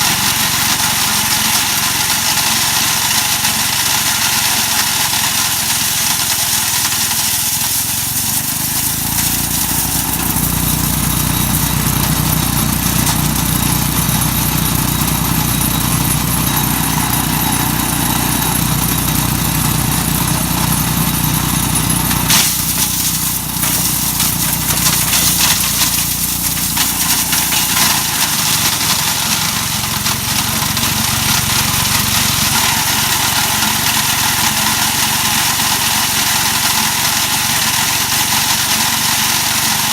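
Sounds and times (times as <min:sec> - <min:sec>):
wood chipper grinding: 0:00.0 - 0:39.9.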